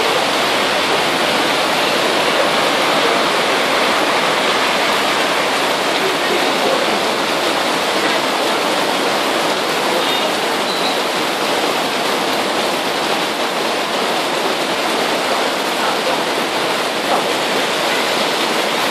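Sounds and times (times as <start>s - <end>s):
heavy rain pouring on street: 0.0s - 18.9s.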